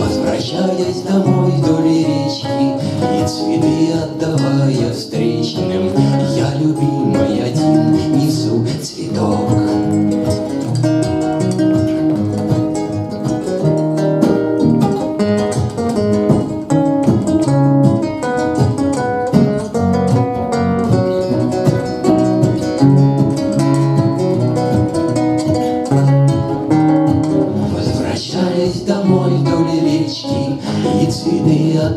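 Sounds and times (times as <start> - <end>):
acoustic guitar strumming: 0.0 - 31.9.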